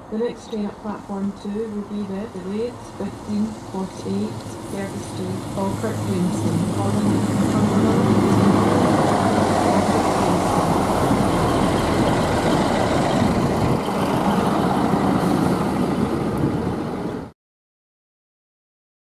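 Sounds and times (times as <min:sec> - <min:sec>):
diesel train engine: 0:00.0 - 0:17.3
train wheels rumbling on rails: 0:00.5 - 0:17.3.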